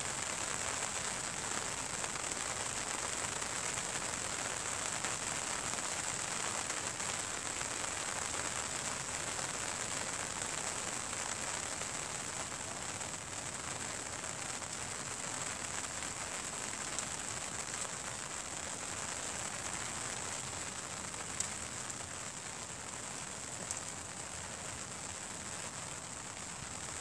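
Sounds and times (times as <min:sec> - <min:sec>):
rain falling on leaves: 0:00.0 - 0:27.0.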